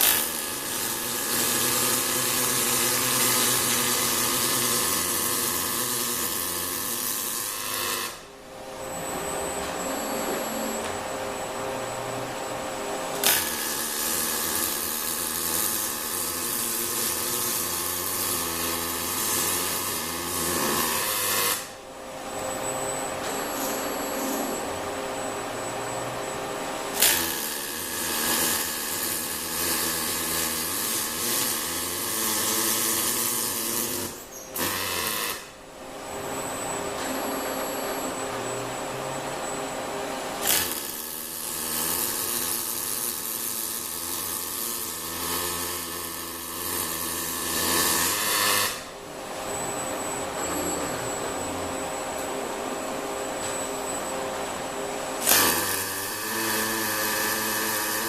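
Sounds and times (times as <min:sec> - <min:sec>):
welding arc buzzing and hissing: 0:00.0 - 0:58.0
faint high whine: 0:00.2 - 0:58.0.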